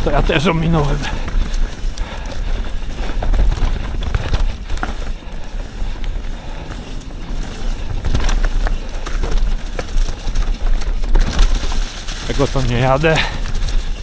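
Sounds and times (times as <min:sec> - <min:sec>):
bike clicks and rattles: 0:00.0 - 0:14.0
bike tyre noise on dirt: 0:00.0 - 0:14.0
wind buffeting the microphone: 0:00.0 - 0:14.0.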